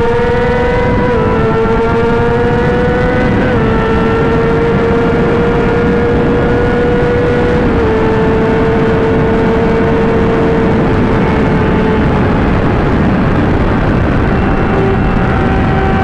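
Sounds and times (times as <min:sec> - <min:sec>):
motorcycle engine at speed: 0:00.0 - 0:16.0
wind noise: 0:00.0 - 0:16.0.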